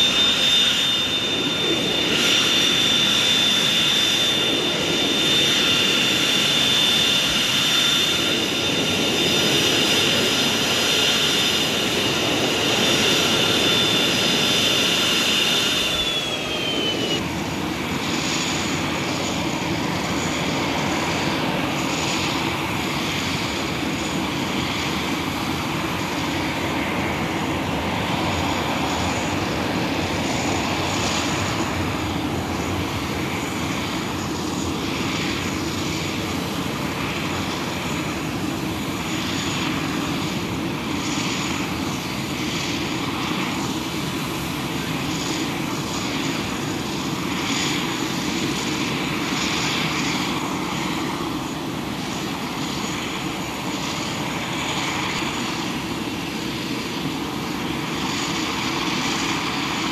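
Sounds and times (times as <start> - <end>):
aircraft engine rumbling: 0.0 - 59.9
high engine whine: 0.0 - 59.9.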